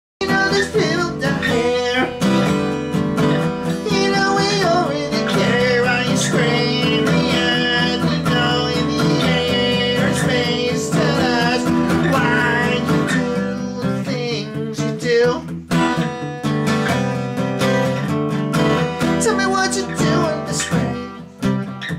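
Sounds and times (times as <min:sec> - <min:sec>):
bending guitar lead melody: 0:00.2 - 0:21.9
guitar-led song: 0:00.2 - 0:21.9.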